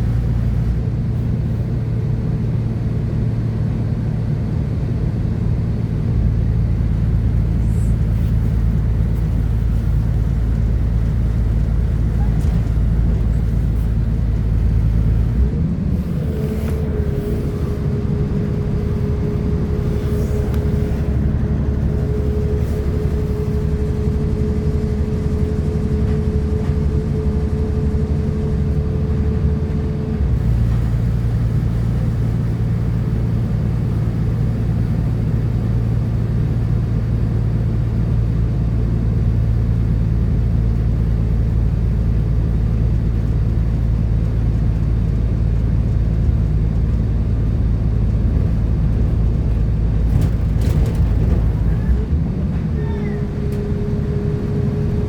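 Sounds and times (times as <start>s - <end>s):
diesel train engine hum: 0.0s - 55.0s.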